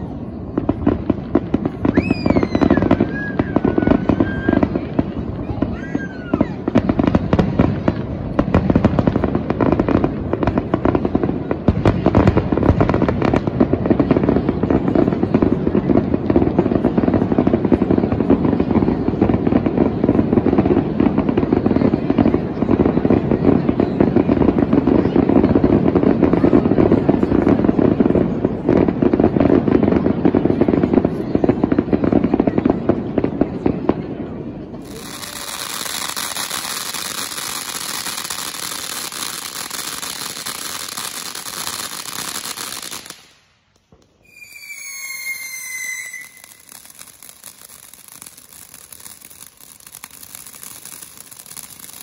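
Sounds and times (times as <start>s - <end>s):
fireworks popping and banging: 0.0s - 52.0s.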